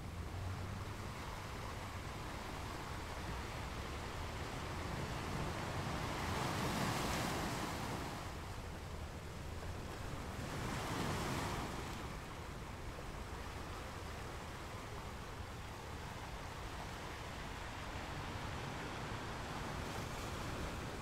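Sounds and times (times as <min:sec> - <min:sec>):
steady surf hiss: 0:00.0 - 0:21.0
waves washing in: 0:00.2 - 0:21.0.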